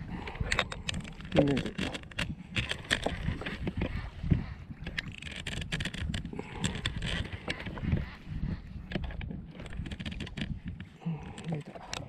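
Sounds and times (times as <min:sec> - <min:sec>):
knocks and clicks on hull: 0:00.0 - 0:12.0.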